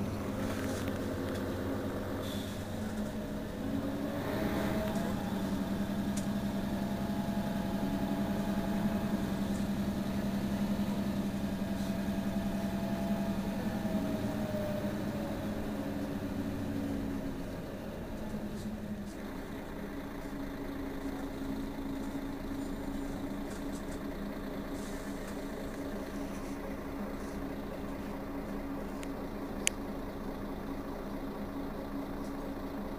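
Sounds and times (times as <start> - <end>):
bus engine idling: 0.0 - 32.9.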